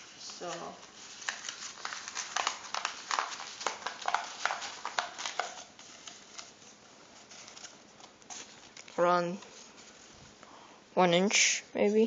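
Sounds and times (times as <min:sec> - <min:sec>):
paper crackling and rustling: 0:00.0 - 0:10.4.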